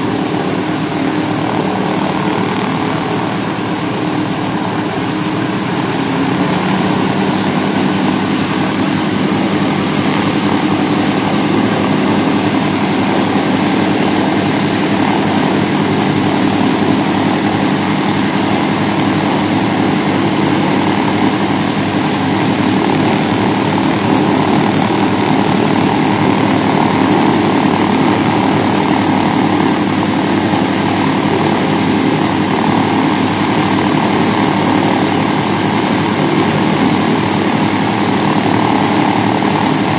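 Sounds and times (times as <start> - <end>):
radial aircraft engines running: 0.0 - 39.9.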